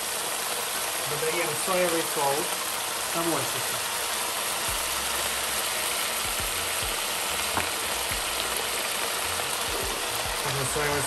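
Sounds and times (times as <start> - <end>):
sauce bubbling: 0.0 - 11.0
vegetables sizzling in frying pan: 0.0 - 11.0.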